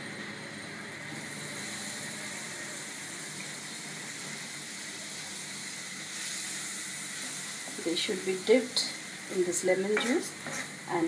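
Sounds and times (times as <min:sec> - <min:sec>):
liquid sizzling in hot wok: 0:00.0 - 0:11.0.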